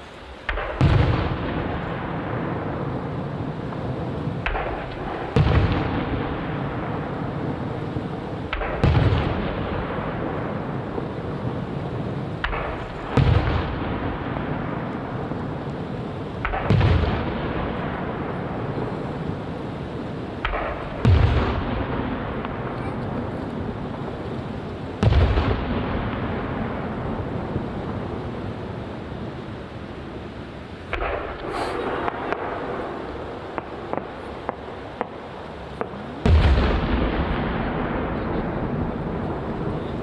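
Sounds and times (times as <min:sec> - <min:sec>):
firework shells bursting: 0:00.0 - 0:40.0.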